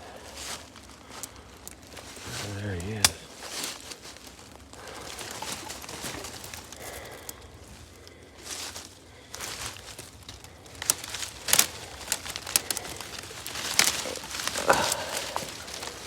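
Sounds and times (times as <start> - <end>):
footsteps crunching through dry leaves: 0.0 - 16.0
twigs rustling and crackling: 0.0 - 16.0.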